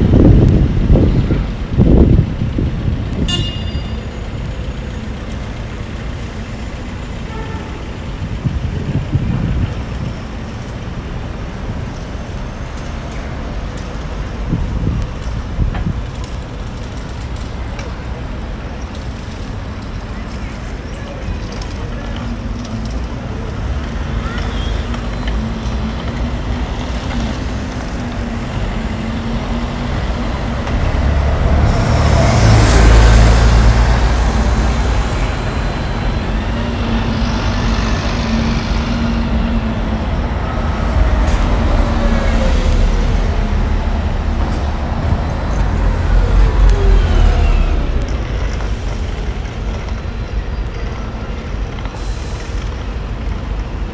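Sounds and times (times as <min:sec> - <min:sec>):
cars and buses passing: 0:00.0 - 0:53.9
heavy vehicles passing: 0:00.0 - 0:53.9.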